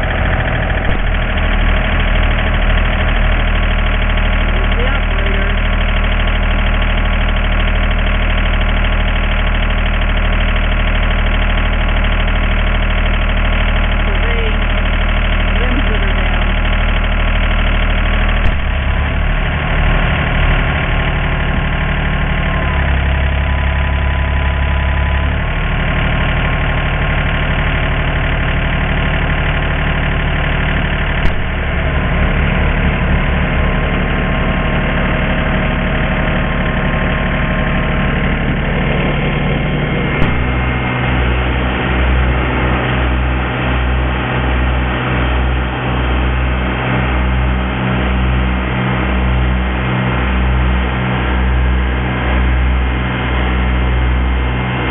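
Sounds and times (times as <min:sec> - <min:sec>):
tractor engine idling: 0:00.0 - 0:54.9.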